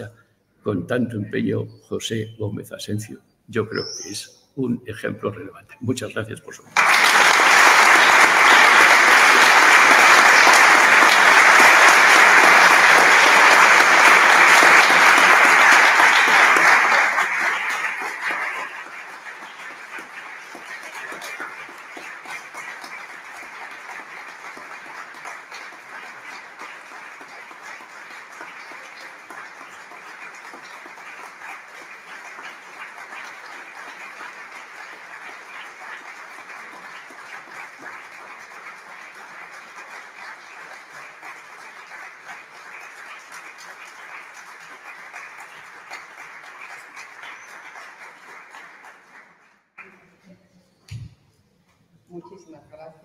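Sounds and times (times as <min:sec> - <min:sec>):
audience applause: 0:06.8 - 0:50.1.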